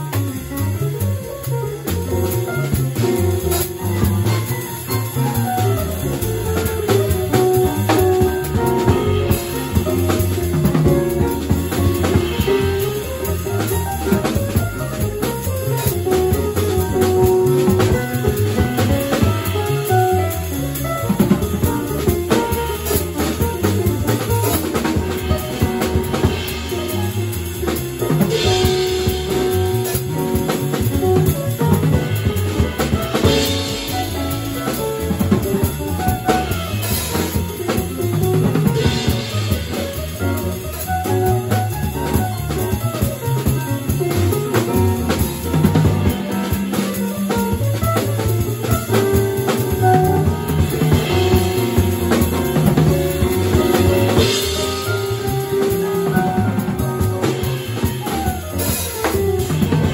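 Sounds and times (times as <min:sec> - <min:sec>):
drum kit with cymbals: 0:00.0 - 0:59.9
electric keyboard chords: 0:00.0 - 0:59.9
upright bass walking: 0:00.0 - 0:59.9.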